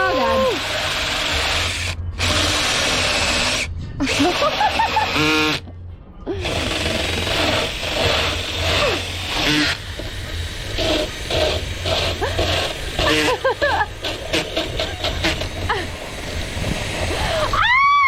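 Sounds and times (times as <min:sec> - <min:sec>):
electric drill with hole saw cutting: 0:00.0 - 0:05.6, 0:06.4 - 0:17.8.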